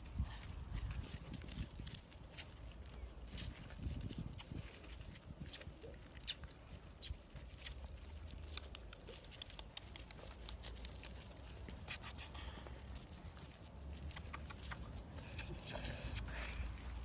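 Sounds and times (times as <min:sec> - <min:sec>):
puppy paws scrabbling on gravel: 0:00.0 - 0:15.6.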